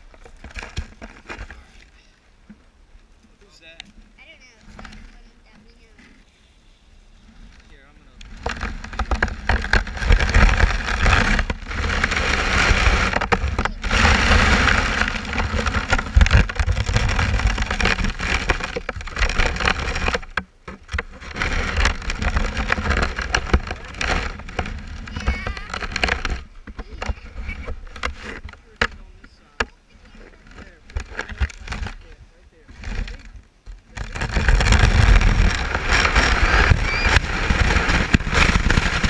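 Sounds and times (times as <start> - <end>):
sled scraping on snow: 0.0 - 2.1, 3.6 - 39.0.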